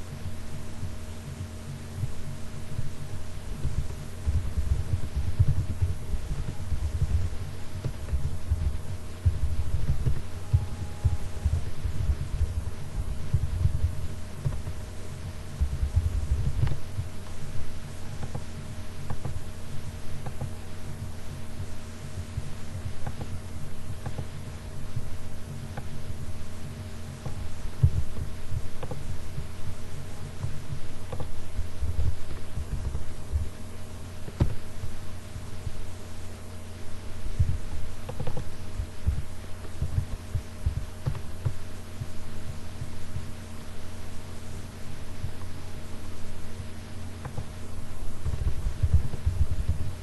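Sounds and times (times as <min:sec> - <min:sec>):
soft low thumps: 0:00.0 - 0:46.6, 0:47.2 - 0:50.0
low electrical hum: 0:00.0 - 0:50.0.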